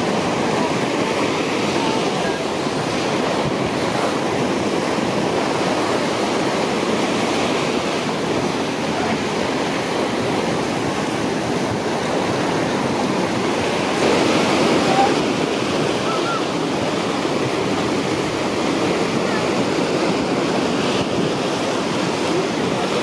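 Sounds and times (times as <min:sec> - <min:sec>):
water rushing: 0:00.0 - 0:23.0.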